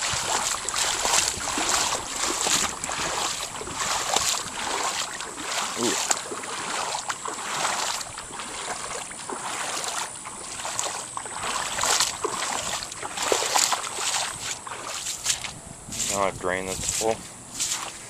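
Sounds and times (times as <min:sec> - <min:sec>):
floodwater sloshing and splashing: 0:00.0 - 0:18.0.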